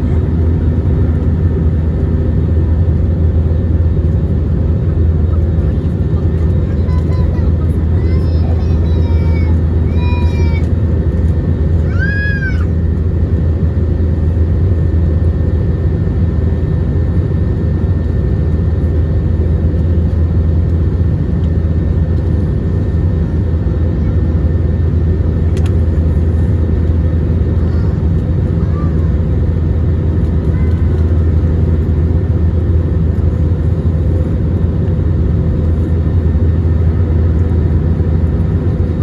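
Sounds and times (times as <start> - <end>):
jet engines droning: 0.0 - 39.0.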